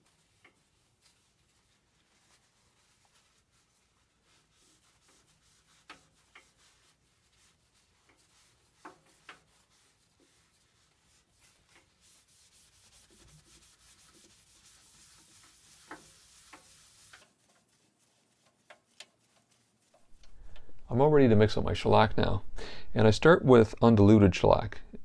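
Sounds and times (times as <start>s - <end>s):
cloth wiping wood: 0.0s - 21.0s.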